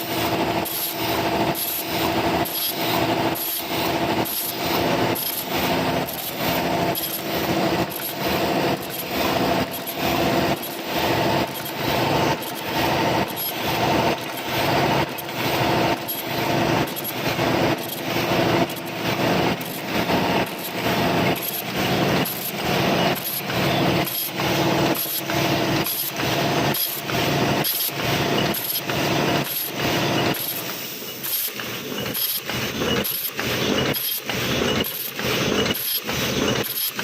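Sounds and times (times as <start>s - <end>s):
machine hum: 0.0s - 31.1s
machine clattering: 0.2s - 37.0s.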